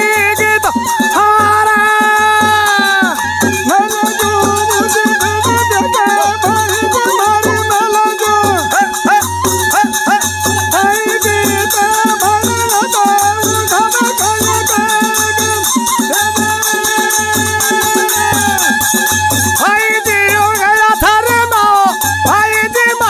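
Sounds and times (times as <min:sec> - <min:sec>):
clacking hand percussion: 0:00.0 - 0:23.0
double flute folk melody: 0:00.0 - 0:23.0
drum beat: 0:00.0 - 0:23.0.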